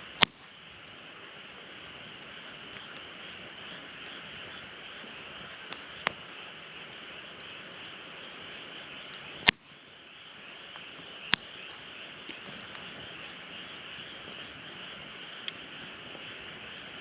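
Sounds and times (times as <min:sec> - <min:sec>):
sharp fire pops: 0:00.0 - 0:17.0
steady fire hiss: 0:00.0 - 0:17.0
wood fire crackling: 0:00.0 - 0:17.0.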